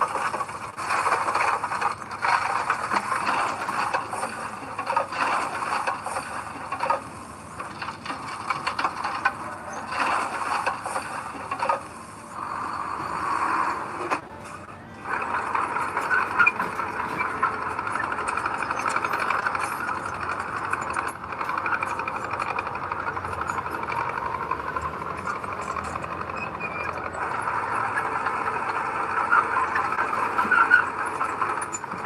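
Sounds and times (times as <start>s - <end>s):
heavy machinery rattling and scraping: 0.0s - 32.0s.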